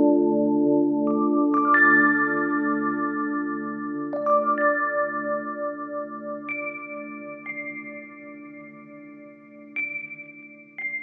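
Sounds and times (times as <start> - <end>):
bell-like notes over held chord: 0.0 - 11.0.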